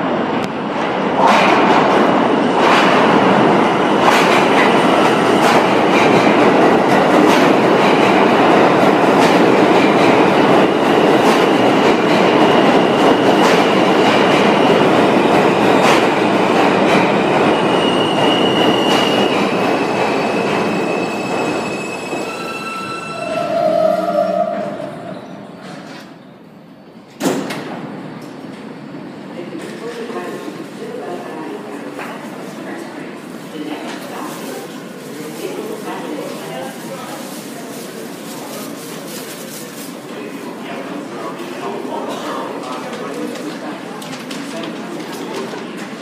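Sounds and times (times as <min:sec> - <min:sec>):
steel wheels rumbling on rail: 0:00.0 - 0:46.0.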